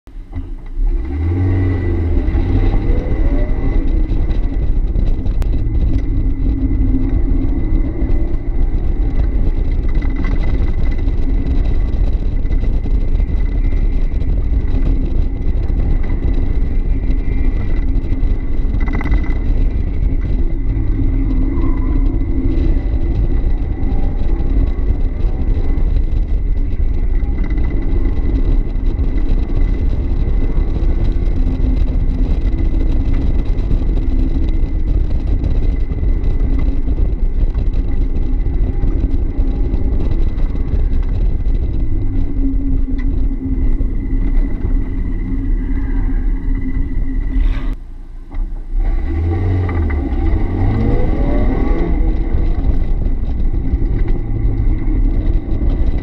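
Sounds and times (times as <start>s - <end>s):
car engine driven hard: 0.1s - 56.0s.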